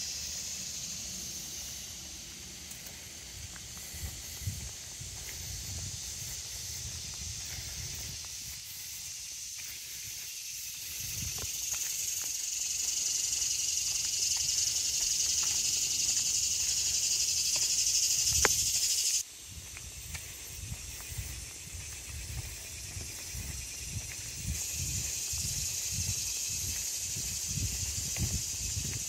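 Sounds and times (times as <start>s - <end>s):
cicada buzzing: 0.0s - 29.0s.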